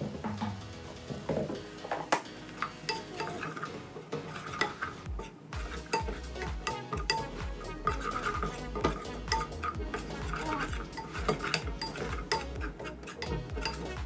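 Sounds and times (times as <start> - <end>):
metal spoon scraping saucepan: 2.6 - 14.0.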